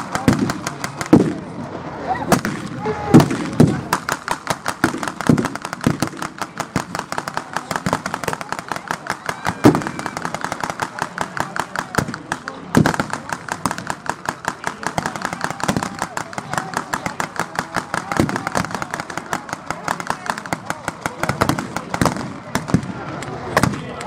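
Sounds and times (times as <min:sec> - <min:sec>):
loud gun bangs: 0:00.0 - 0:01.5, 0:02.3 - 0:24.0
rapid blank gunfire crackle: 0:00.0 - 0:01.6, 0:02.3 - 0:24.0.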